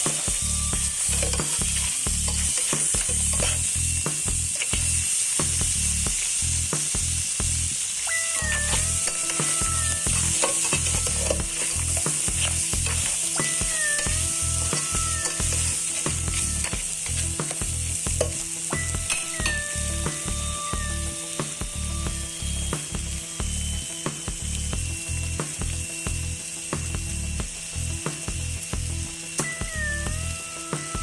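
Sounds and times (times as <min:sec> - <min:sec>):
background music with low beat: 0:00.0 - 0:07.8, 0:08.6 - 0:31.0
crabs sizzling in a pan: 0:00.0 - 0:31.0.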